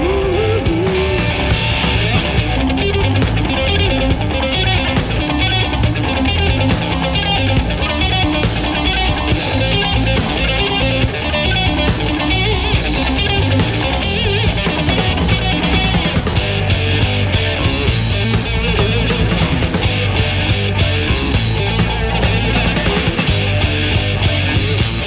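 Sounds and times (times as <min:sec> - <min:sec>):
electric guitar: 0:00.0 - 0:25.0
rock band playing: 0:00.0 - 0:25.0.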